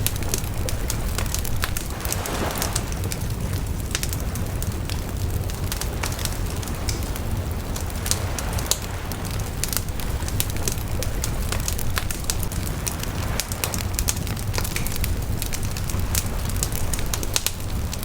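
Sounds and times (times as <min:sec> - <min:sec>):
bonfire crackling: 0:00.0 - 0:18.0.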